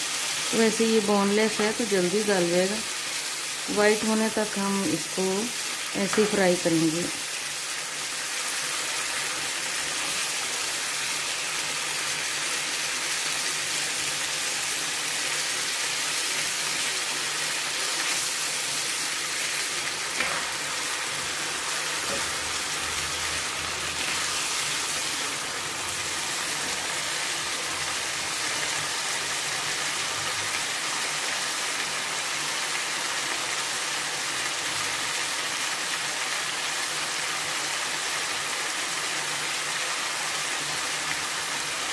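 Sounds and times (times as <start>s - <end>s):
chicken sizzling in a frying pan: 0.0s - 41.9s.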